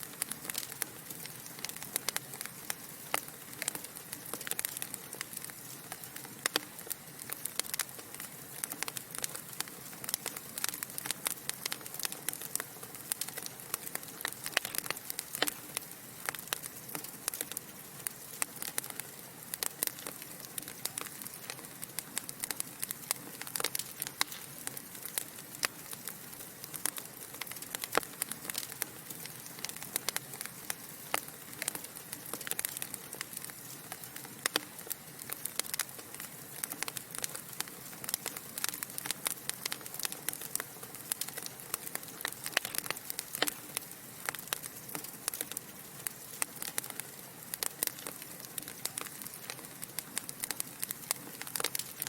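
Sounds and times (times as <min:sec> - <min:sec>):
log fire crackling and popping: 0:00.0 - 0:52.0
soft fire hiss: 0:00.0 - 0:52.0.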